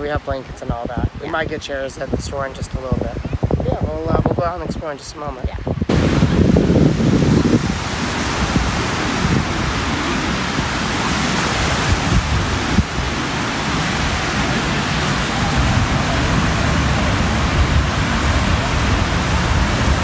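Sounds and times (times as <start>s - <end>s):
surf washing on sandy beach: 0.0s - 20.0s
wind rumbling on microphone: 0.0s - 20.0s.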